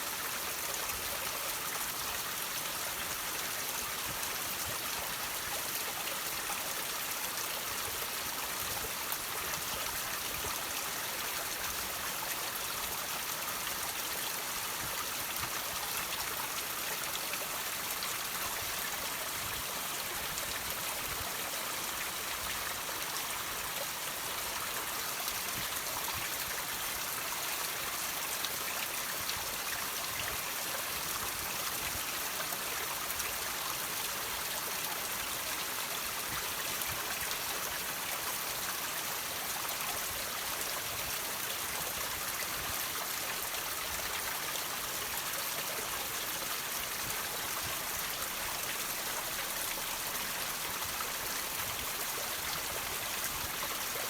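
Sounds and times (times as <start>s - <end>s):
water trickling over rocks: 0.1s - 54.0s.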